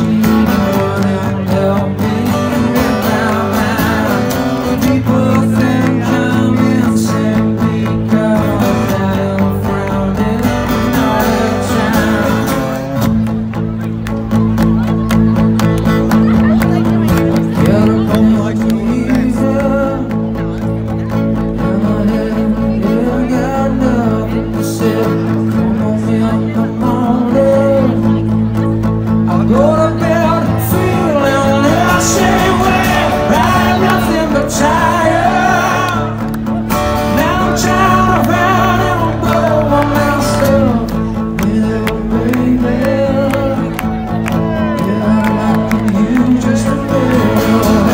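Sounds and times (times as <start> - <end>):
man singing: 0.0 - 13.4, 17.5 - 47.9
guitar: 0.0 - 47.9.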